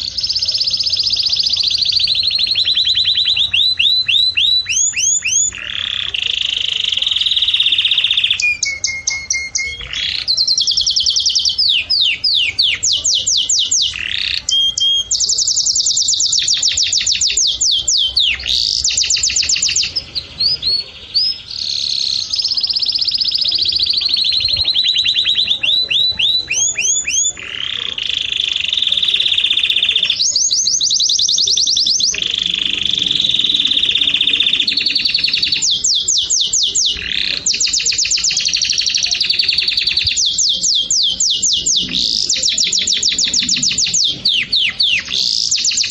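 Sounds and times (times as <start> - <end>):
songbird trilling song: 0.0 - 45.9.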